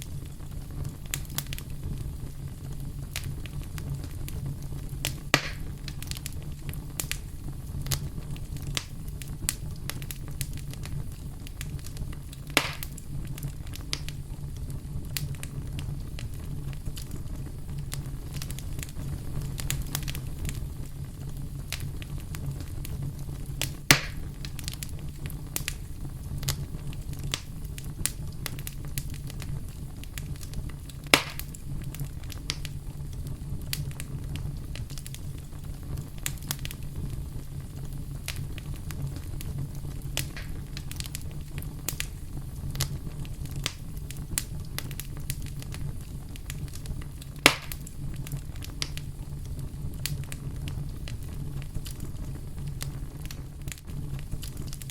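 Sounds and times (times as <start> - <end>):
crackling of burning wood: 0.0 - 54.9
loud pops from burning wood: 0.0 - 54.9
low rumble of flame: 0.0 - 54.9.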